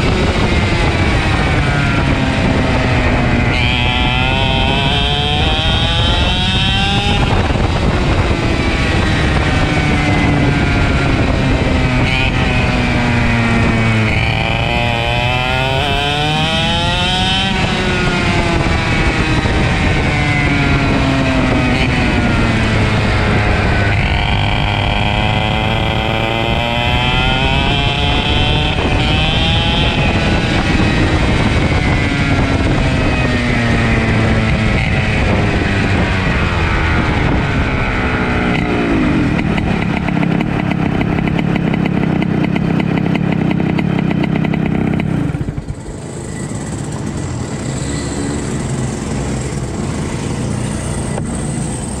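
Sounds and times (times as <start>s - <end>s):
racing kart engine revving: 0.0s - 52.0s.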